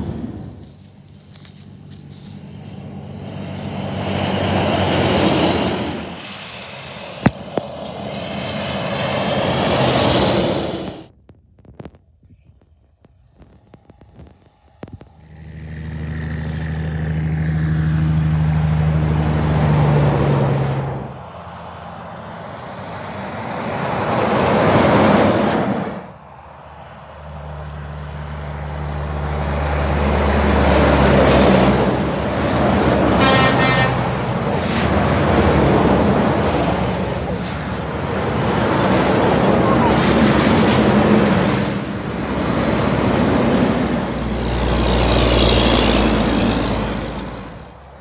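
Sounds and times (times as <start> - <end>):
diesel trucks passing by: 0.0 - 11.2, 13.2 - 48.0.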